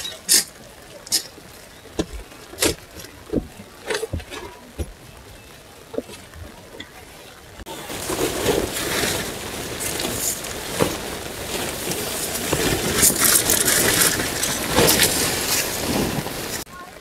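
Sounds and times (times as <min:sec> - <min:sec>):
tent sheet rustling and crinkling: 0:00.0 - 0:16.7
rain falling: 0:00.0 - 0:17.0.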